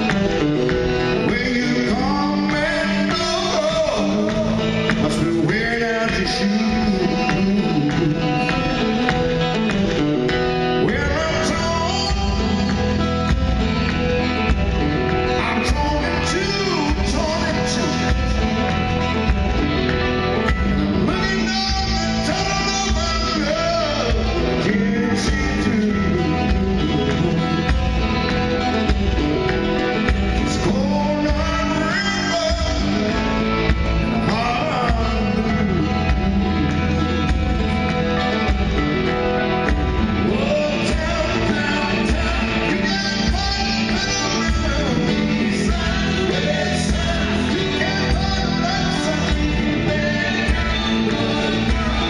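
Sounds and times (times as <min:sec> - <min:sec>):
man singing: 0:00.0 - 0:09.4, 0:10.6 - 0:14.5, 0:15.1 - 0:19.6, 0:20.7 - 0:28.7, 0:29.8 - 0:36.8, 0:39.4 - 0:52.0
live rock band playing: 0:00.0 - 0:52.0.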